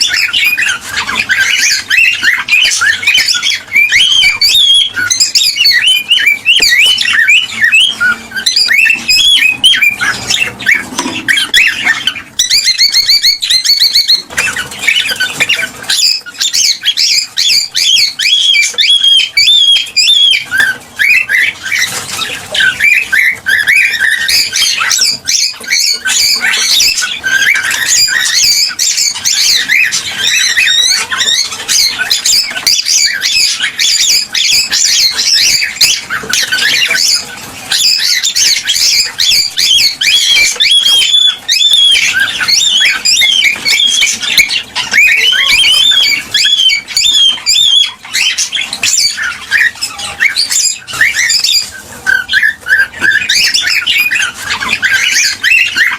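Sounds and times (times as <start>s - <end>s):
cockatiels chirping and squawking: 0.0s - 55.9s.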